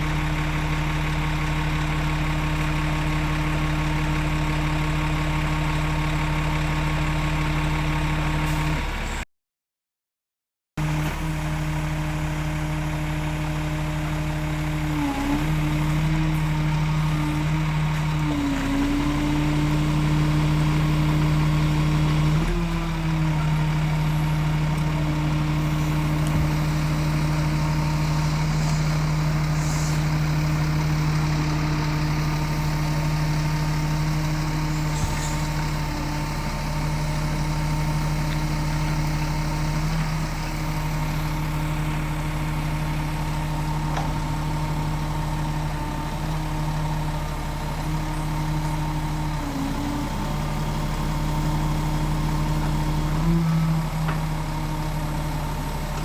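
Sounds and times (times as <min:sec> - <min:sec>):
truck diesel engine running: 0:00.0 - 0:09.2, 0:10.8 - 0:56.0.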